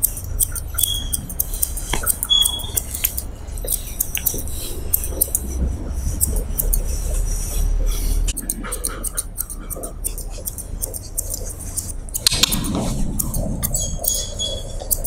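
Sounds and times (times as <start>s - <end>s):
scissors snipping hair: 0.0s - 7.3s, 8.0s - 15.0s
steady low hum: 0.0s - 15.0s.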